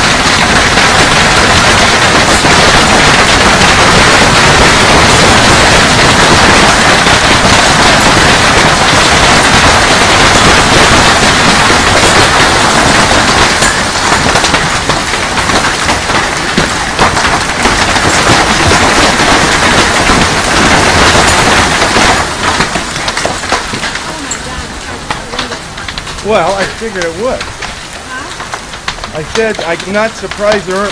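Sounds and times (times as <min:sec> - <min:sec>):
hail pelting: 0:00.0 - 0:30.9
hailstones clacking on hard surfaces: 0:00.0 - 0:30.9.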